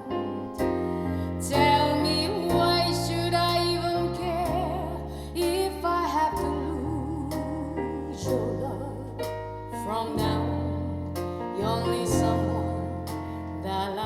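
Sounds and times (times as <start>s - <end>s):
instrumental accompaniment: 0.0s - 14.0s
sustained bass line: 0.0s - 14.0s.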